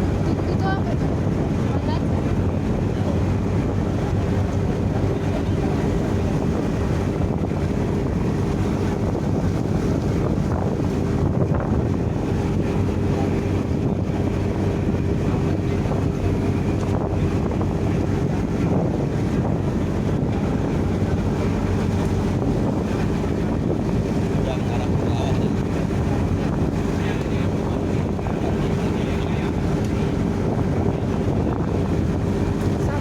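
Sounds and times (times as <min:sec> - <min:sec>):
ship engine droning: 0:00.0 - 0:33.0
wind buffeting microphone: 0:00.0 - 0:33.0.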